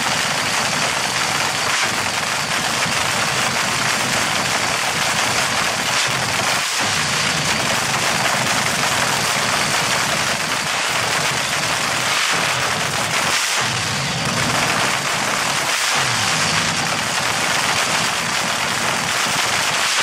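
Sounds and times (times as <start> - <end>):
dragster engine harsh rattle: 0.0 - 20.0.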